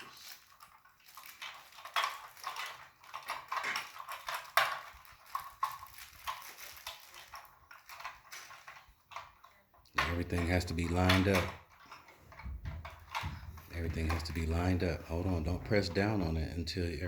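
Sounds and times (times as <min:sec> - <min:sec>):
plastic parts clicking and rattling: 0:00.0 - 0:17.0.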